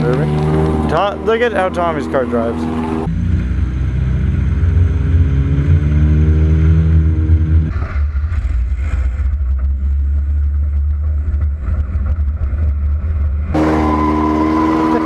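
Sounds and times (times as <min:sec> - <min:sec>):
loud car engine running: 0:00.0 - 0:07.8, 0:09.0 - 0:15.0.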